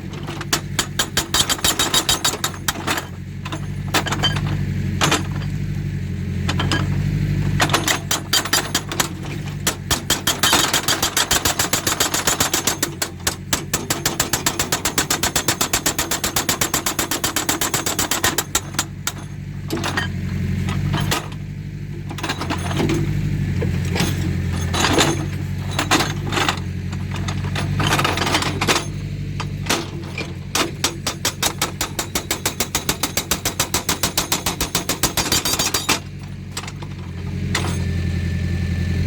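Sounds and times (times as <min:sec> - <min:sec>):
hydraulic breaker hammering rock: 0:00.0 - 0:38.1
diesel engine running: 0:00.0 - 0:39.0.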